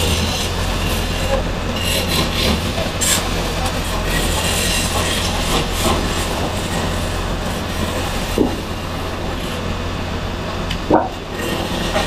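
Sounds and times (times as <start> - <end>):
gouge scraping spinning wood: 0.0 - 9.7, 11.2 - 12.0.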